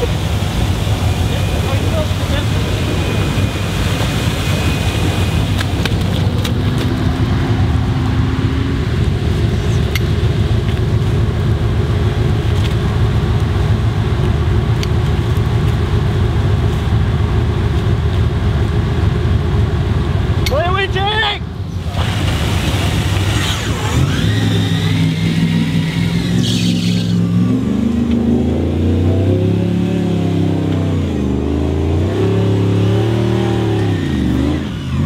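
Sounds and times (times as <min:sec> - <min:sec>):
truck engine rumbling: 0:00.0 - 0:35.0.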